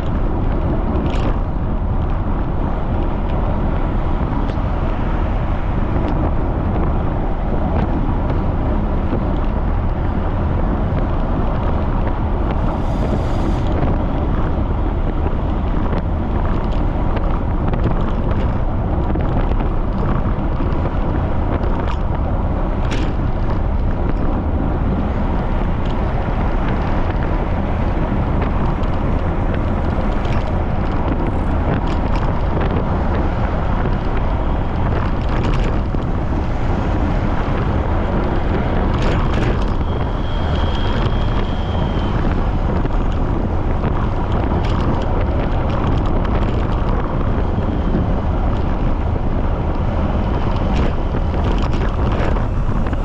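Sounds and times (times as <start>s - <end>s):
wind roaring on microphone: 0.0s - 53.0s.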